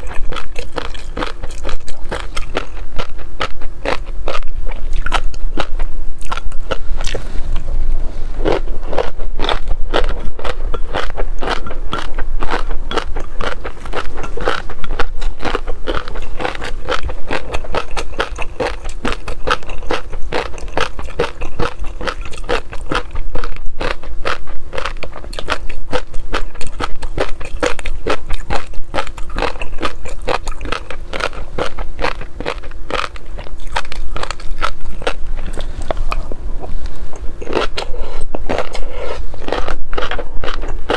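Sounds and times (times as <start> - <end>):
crisp crunching and chewing: 0.0 - 7.6, 8.4 - 40.9.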